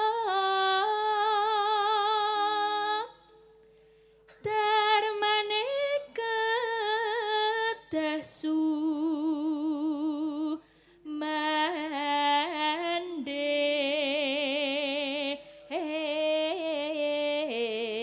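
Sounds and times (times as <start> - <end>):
woman singing into microphone: 0.0 - 3.3, 4.3 - 18.0.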